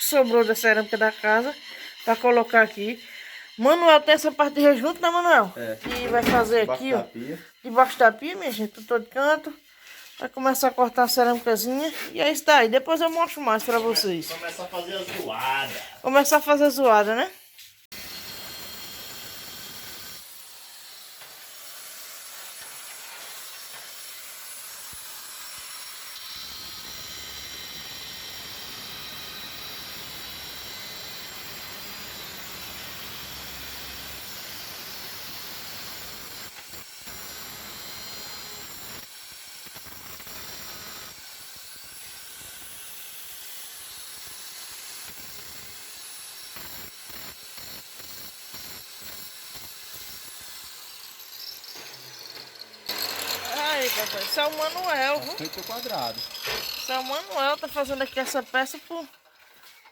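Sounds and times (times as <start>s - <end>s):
power cutter grinding tile: 0.0s - 17.3s, 17.9s - 59.9s.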